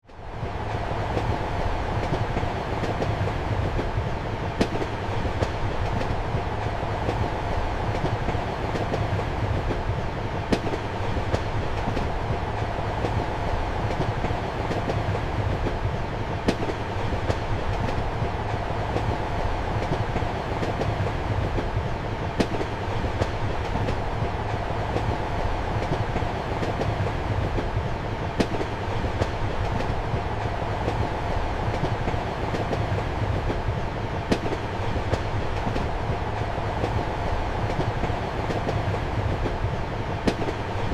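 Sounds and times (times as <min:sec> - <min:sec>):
train rumbling: 0:00.0 - 0:40.9
train wheels clicking: 0:00.4 - 0:40.9.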